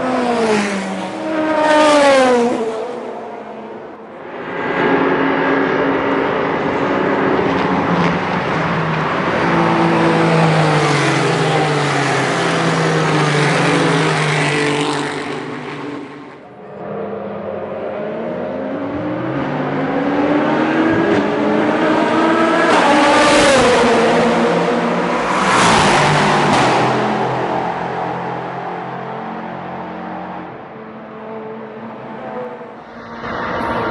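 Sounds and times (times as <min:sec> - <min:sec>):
race car passing close: 0:00.0 - 0:33.9
racing car engines: 0:00.0 - 0:33.9.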